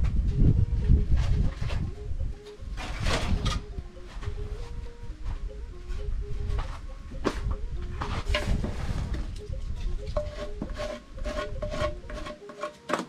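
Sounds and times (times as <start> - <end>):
soft background music: 0.0 - 13.0
wooden board scraping earth floor: 0.8 - 13.0.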